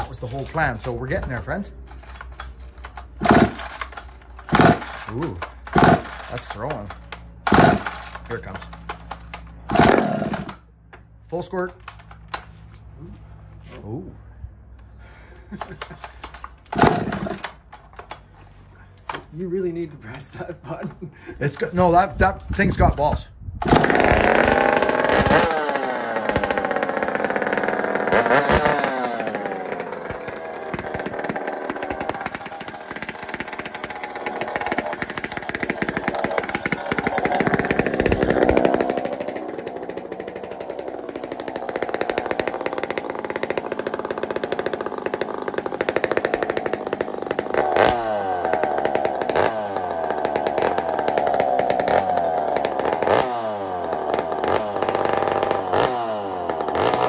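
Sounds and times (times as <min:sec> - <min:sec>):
chainsaw revving: 0:00.0 - 0:10.8, 0:15.5 - 0:18.2, 0:23.6 - 0:57.0.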